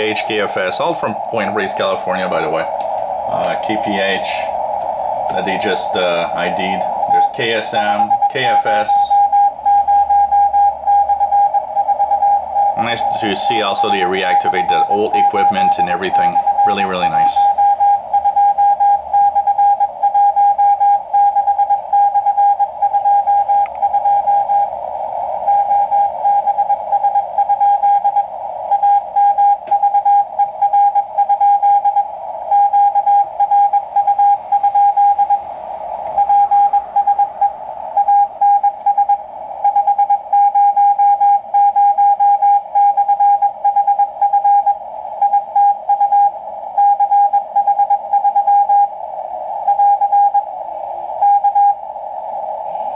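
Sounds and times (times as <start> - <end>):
morse code beeps: 0.0 - 24.7, 25.4 - 52.0
radio static: 0.0 - 52.9.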